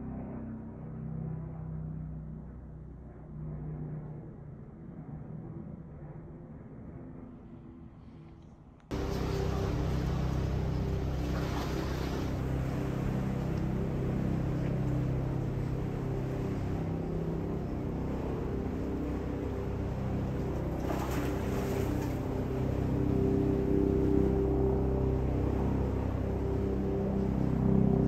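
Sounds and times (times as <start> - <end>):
boat engine droning: 0.0 - 8.3, 8.9 - 28.0.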